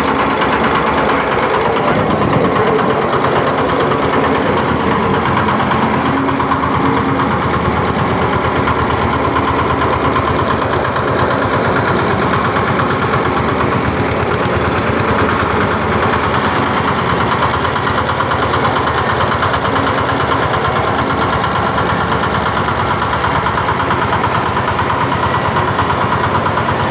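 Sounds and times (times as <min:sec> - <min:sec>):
small mixer engine pulsing: 0:00.0 - 0:26.9.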